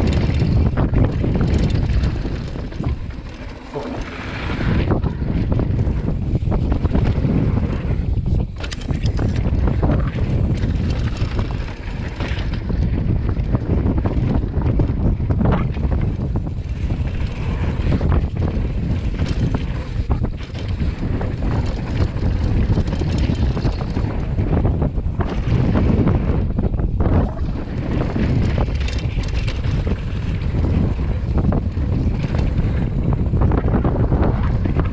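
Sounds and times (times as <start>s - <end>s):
bike clattering over bumps: 0.0s - 34.9s
tyres rolling over dirt: 0.0s - 34.9s
wind buffeting microphone: 0.0s - 34.9s.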